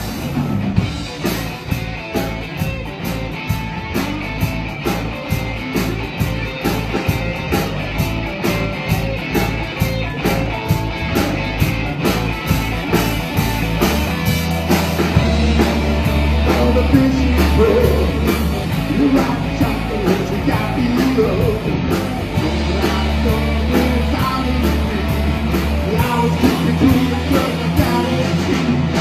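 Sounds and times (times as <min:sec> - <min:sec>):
live rock band instrumental: 0:00.0 - 0:29.0.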